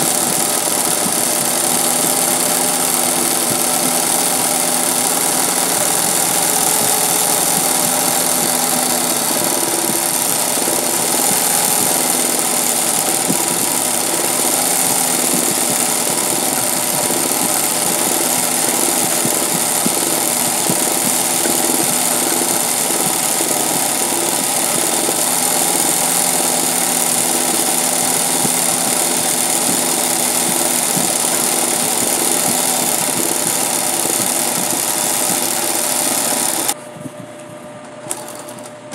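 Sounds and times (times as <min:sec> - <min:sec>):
sewing machine motor hum: 0:00.0 - 0:36.8, 0:38.0 - 0:38.9
sewing machine needle clatter: 0:00.0 - 0:36.8.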